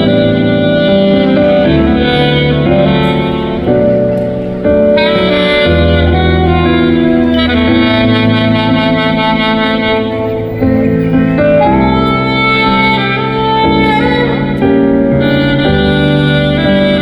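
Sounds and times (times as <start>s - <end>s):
accompaniment with bass and chords: 0.0s - 17.0s
saxophone melody: 0.0s - 17.0s.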